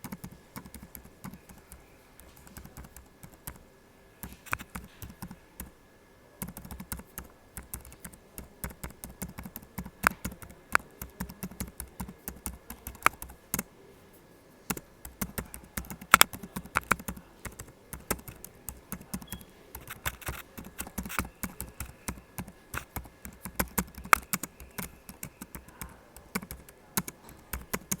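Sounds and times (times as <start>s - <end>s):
laptop keyboard typing: 0.0s - 5.7s, 6.4s - 13.7s, 14.7s - 28.0s.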